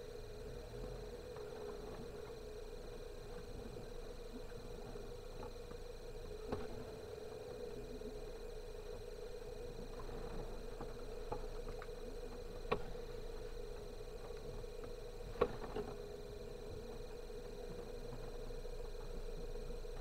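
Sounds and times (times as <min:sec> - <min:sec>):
faint ticks: 0:00.0 - 0:20.0.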